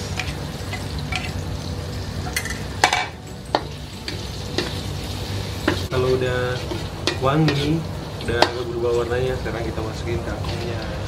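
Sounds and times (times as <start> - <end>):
aromatics sizzling in oil: 0.0 - 11.0.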